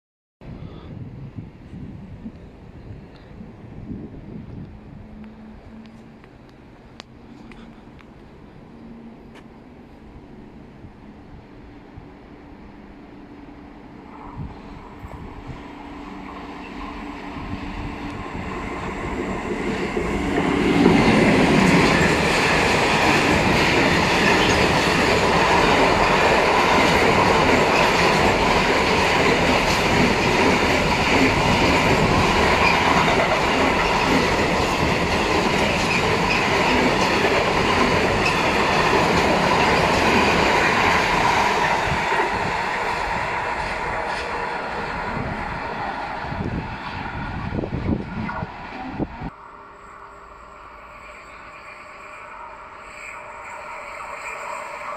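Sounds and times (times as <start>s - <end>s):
freight train passing: 0.8s - 54.9s.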